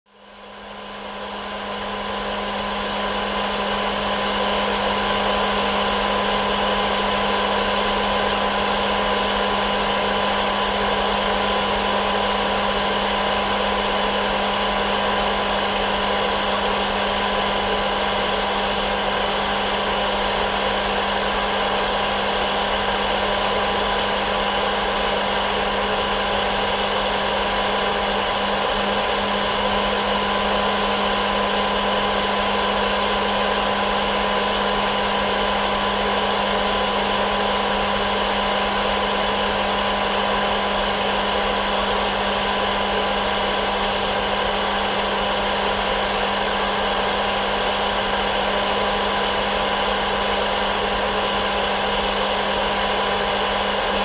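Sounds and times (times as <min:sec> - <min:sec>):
hair dryer running: 0:00.1 - 0:54.0.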